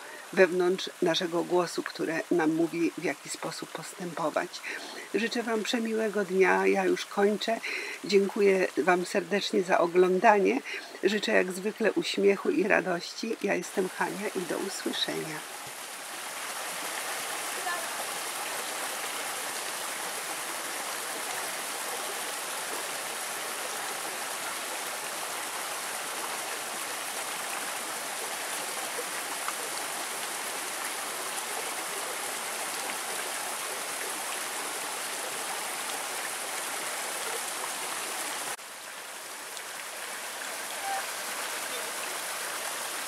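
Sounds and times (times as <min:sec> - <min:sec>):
creek rushing over boulders: 0:00.0 - 0:43.0.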